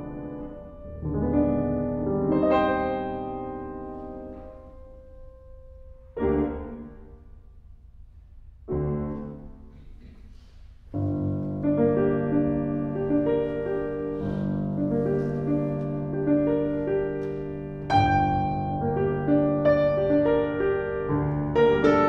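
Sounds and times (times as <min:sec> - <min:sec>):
piano playing repeated notes: 0:00.0 - 0:07.5, 0:11.0 - 0:22.0
piano chords ringing: 0:00.0 - 0:10.1, 0:11.0 - 0:22.0.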